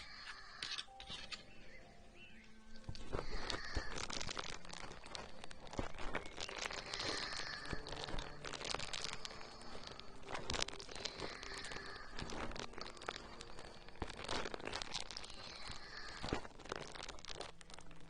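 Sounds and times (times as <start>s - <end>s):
crackling and crinkling on microphone: 0.0s - 18.0s.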